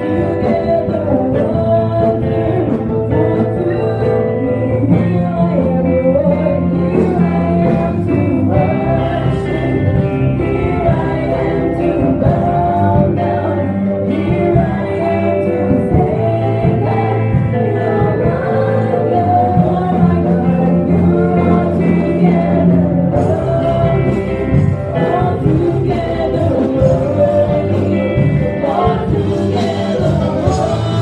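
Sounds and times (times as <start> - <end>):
backing singers: 0.0 - 31.0
keyboard-led band: 0.0 - 31.0
woman singing lead: 0.0 - 31.0.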